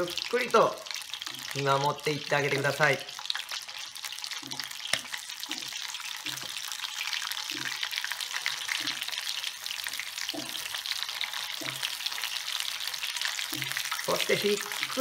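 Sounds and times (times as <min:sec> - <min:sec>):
oysters deep-frying in oil: 0:00.0 - 0:15.0.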